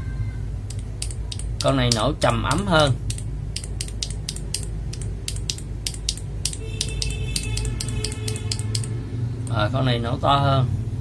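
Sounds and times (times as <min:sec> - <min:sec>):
keyboard switches clacking: 0:00.7 - 0:09.6.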